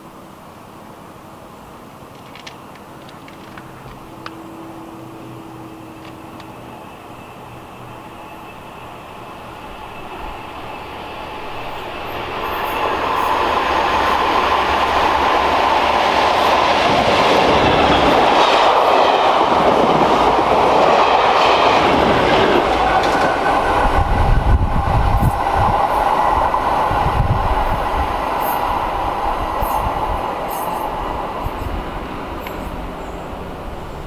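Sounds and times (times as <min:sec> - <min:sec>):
train wheels rumbling on rails: 0:01.9 - 0:34.0.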